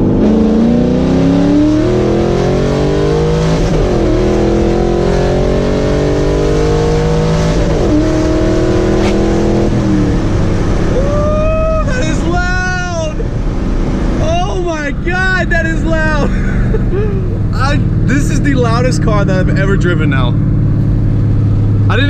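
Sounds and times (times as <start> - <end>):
loud car exhaust accelerating: 0.0 - 22.0.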